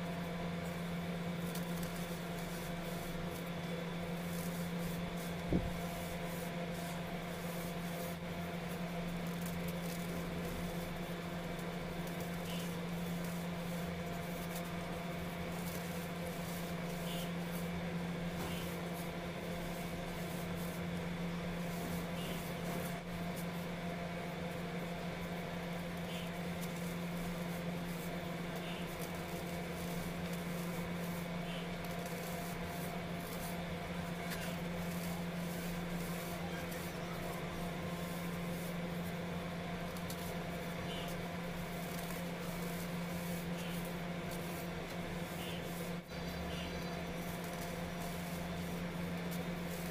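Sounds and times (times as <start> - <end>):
steady low hum: 0.0 - 49.9
hands rubbing powder: 0.6 - 49.9.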